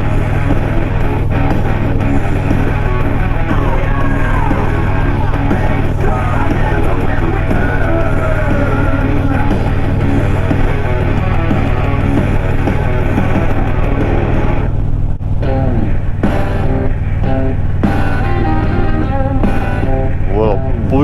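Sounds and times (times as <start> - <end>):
rock music with singing: 0.0 - 14.8, 15.4 - 21.0.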